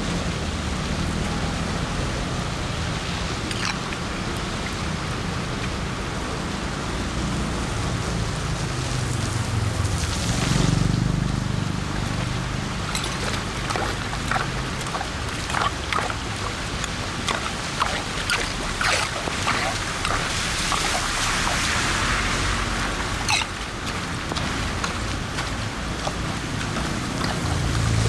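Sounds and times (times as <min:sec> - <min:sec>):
running storm water: 0:00.0 - 0:28.0
steady rain: 0:00.0 - 0:28.0.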